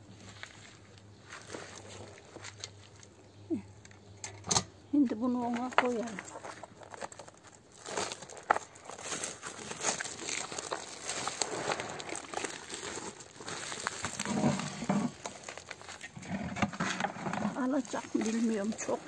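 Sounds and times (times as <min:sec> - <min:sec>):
plastic sack rustling and crinkling: 0:00.0 - 0:03.1, 0:05.2 - 0:19.0.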